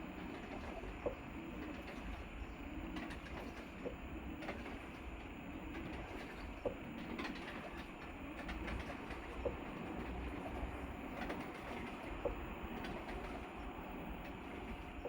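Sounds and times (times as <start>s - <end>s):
washing machine churning: 0.0s - 15.0s.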